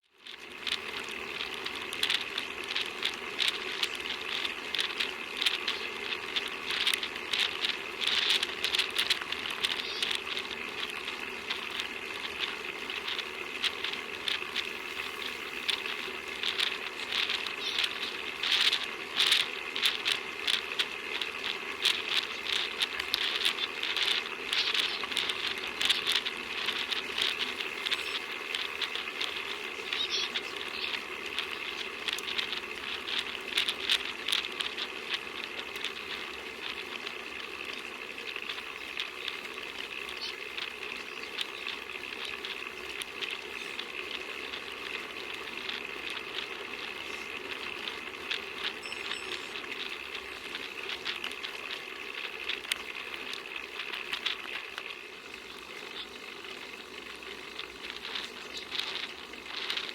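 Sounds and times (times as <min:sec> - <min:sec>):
bicycle rattling and clicking: 0:00.0 - 0:59.9
continuous hiss: 0:00.0 - 0:59.9.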